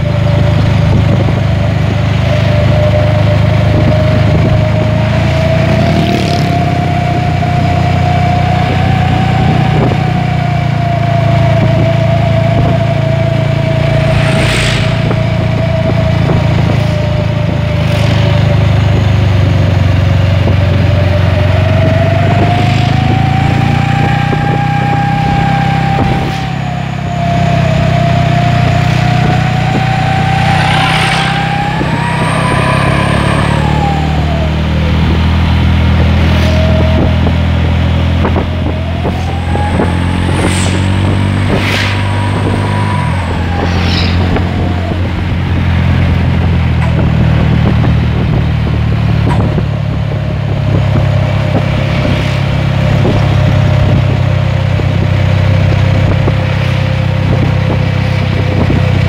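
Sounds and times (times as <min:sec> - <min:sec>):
truck engine rumble: 0:00.0 - 0:59.0
whistle exhaust howling: 0:00.0 - 0:59.0.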